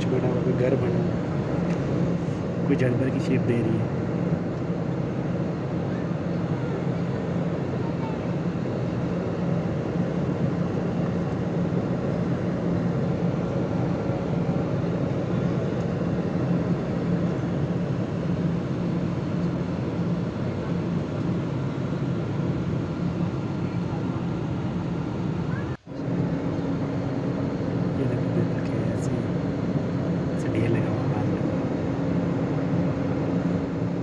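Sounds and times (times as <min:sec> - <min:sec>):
airliner engine drone in cabin: 0:00.0 - 0:34.0.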